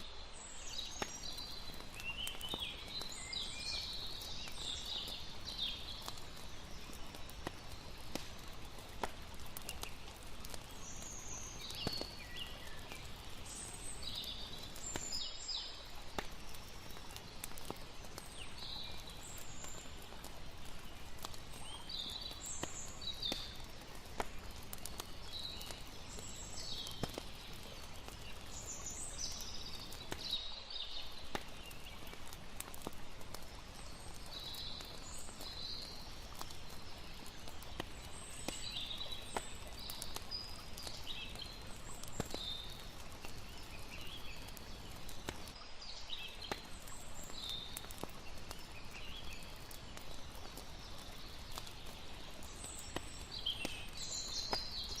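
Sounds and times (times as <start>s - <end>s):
campfire crackling: 0.0s - 55.0s
flowing water: 0.0s - 55.0s.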